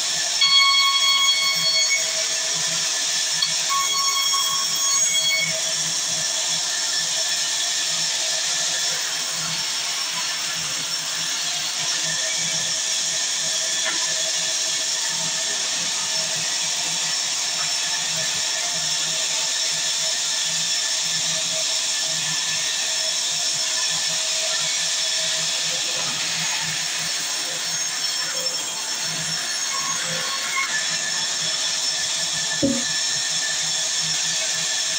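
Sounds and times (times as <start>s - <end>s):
sawmill saw cutting timber: 0.0s - 32.8s.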